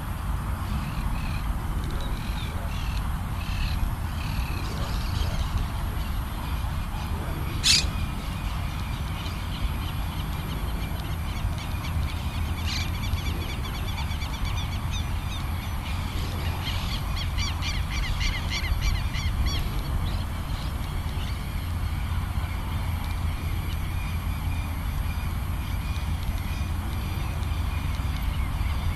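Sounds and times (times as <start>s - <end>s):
wind rumble on microphone: 0.0s - 28.9s
birds calling: 0.6s - 28.9s.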